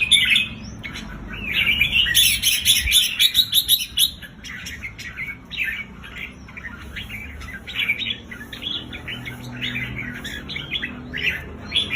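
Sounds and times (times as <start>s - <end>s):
bird chattering: 0.0s - 11.9s.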